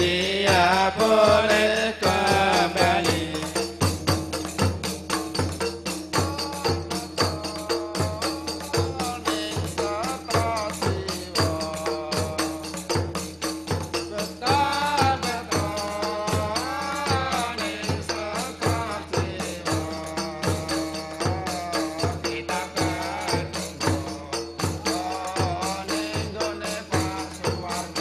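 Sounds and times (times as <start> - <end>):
person singing chant-like melody: 0.0 - 4.2, 6.0 - 13.1, 14.0 - 28.0
frame drums beating: 0.0 - 28.0
jingling hand drum: 0.0 - 28.0.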